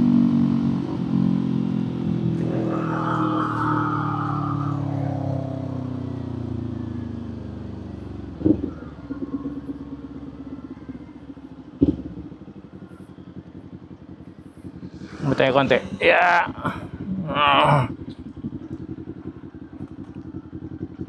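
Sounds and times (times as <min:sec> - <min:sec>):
motorcycle engine winding down: 0:00.2 - 0:21.0.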